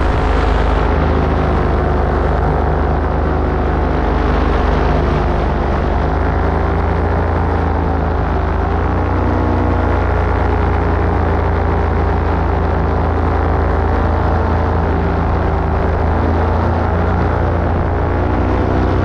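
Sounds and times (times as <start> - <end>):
heavy low rumble: 0.0 - 19.0
paramotor engine and propeller: 0.0 - 19.0.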